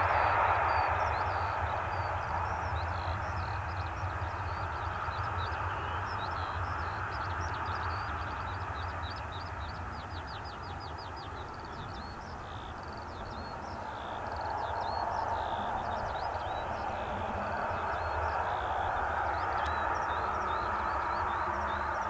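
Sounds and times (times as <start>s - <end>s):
jet engines running: 0.0s - 22.0s
small birds chirping: 1.1s - 22.0s.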